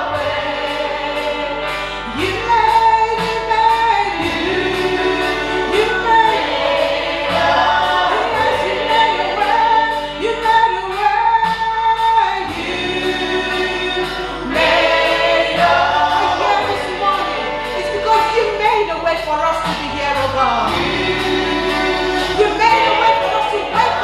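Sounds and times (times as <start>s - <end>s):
group singing gospel song: 0.0s - 24.0s.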